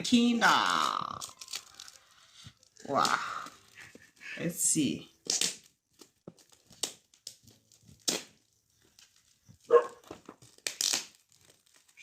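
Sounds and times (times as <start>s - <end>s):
paper ripping and rustling: 0.2s - 4.3s, 5.2s - 12.0s.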